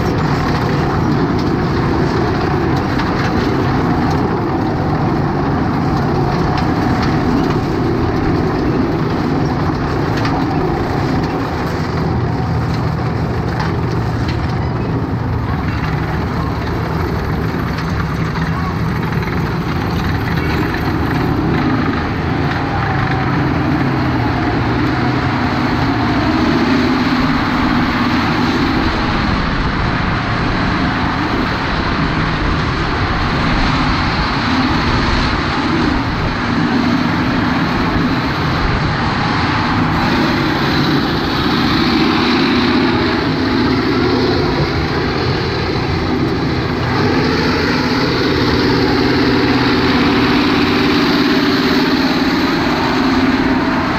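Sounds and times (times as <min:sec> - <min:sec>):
tank diesel engine under load: 0:00.0 - 0:53.9.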